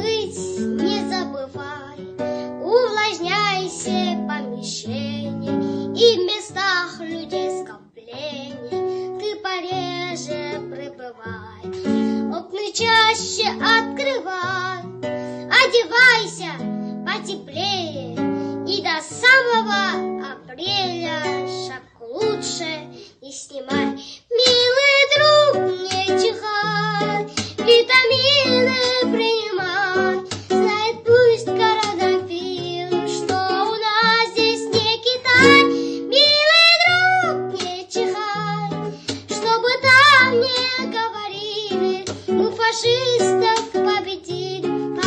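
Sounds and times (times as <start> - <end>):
high voice singing with vibrato: 0.0 - 45.0
plucked guitar: 0.0 - 45.0.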